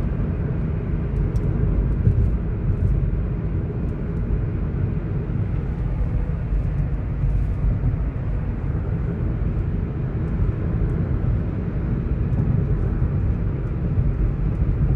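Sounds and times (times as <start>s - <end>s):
car road and engine rumble: 0.0s - 14.9s.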